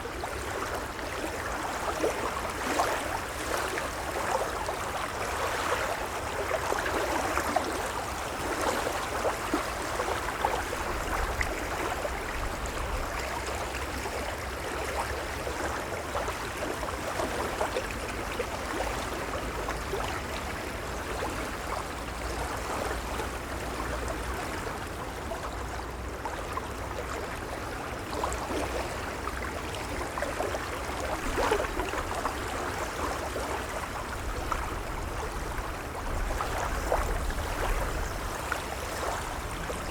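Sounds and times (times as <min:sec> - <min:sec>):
gentle waves lapping: 0:00.0 - 0:39.9.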